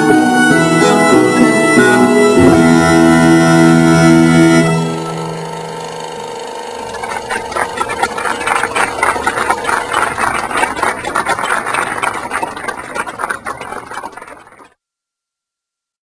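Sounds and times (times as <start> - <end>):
string melody: 0.0 - 14.5.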